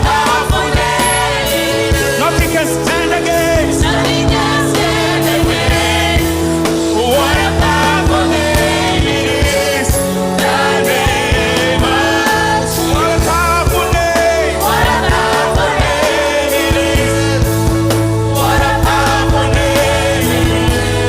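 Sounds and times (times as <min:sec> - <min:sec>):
band with keyboard bass and drums: 0:00.0 - 0:21.0.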